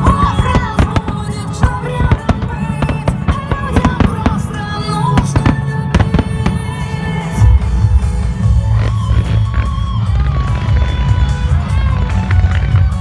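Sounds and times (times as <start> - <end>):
fireworks bursting and crackling: 0.0 - 13.0
loud music playing: 0.0 - 13.0.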